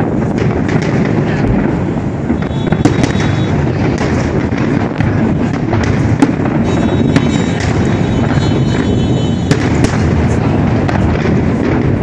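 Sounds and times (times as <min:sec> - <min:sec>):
distant fireworks booming: 0:00.0 - 0:12.0
sharp fireworks bangs: 0:00.0 - 0:12.0.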